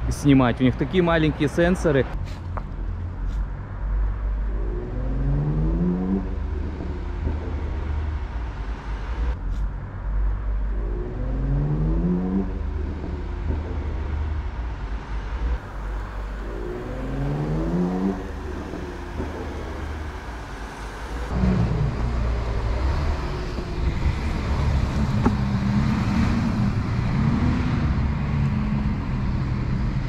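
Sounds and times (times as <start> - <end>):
road and wind noise: 0.0 - 30.0
car engine revving: 3.8 - 9.4, 10.0 - 30.0.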